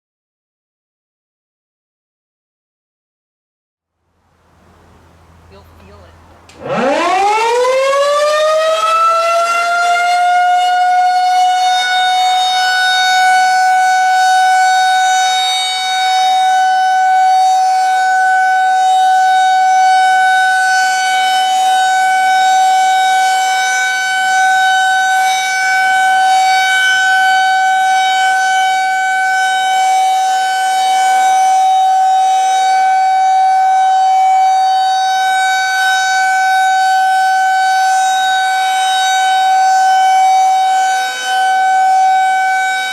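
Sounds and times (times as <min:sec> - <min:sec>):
electromechanical siren steady tone: 0:06.5 - 0:42.9.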